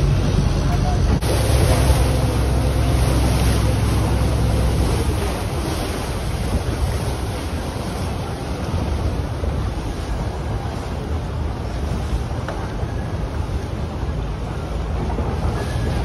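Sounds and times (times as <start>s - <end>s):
boat engine droning: 0.0s - 16.0s
water rushing along hull: 0.0s - 16.0s
wind buffeting microphone: 0.0s - 16.0s.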